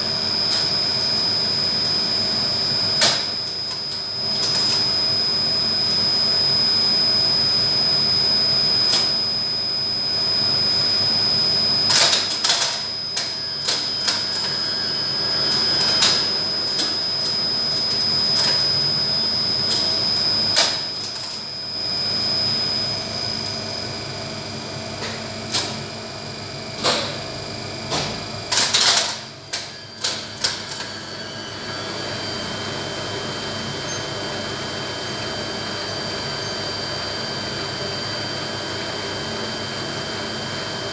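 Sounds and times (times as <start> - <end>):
lift drive machinery whine and hum: 0.0 - 40.9.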